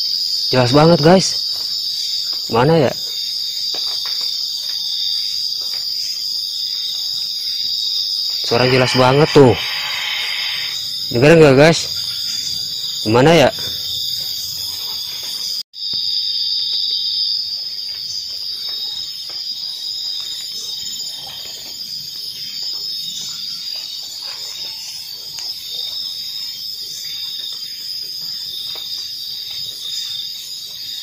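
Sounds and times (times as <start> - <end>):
crickets trilling: 0.0 - 31.0.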